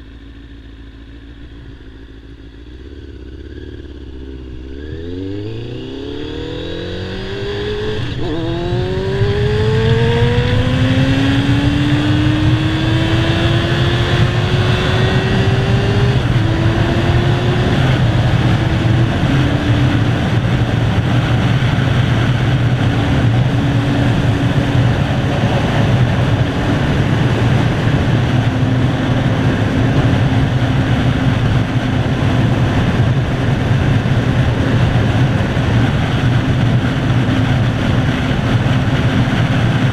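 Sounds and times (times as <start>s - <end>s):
motorcycle engine pulling hard: 0.0s - 39.9s
heavy wind rush: 4.7s - 39.9s.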